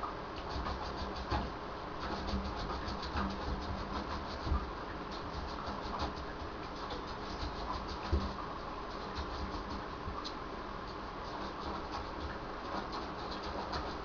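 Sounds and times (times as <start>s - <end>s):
faint steady hum: 0.0s - 14.0s
puppy claws ticking and scratching: 0.4s - 10.4s, 11.3s - 14.0s.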